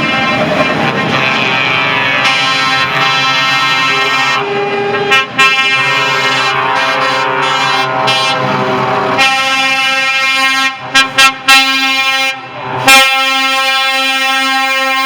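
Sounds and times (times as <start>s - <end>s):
truck air horn blasts: 0.0s - 15.0s.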